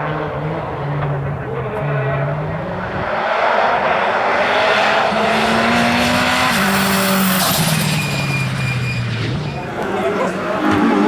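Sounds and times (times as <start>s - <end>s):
race car engine downshifting: 0.0s - 11.0s.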